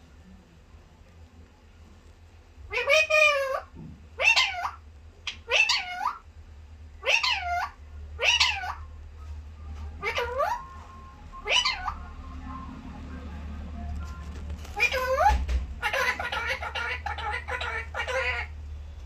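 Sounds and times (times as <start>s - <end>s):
parrot calls: 2.6s - 6.3s, 7.0s - 19.0s.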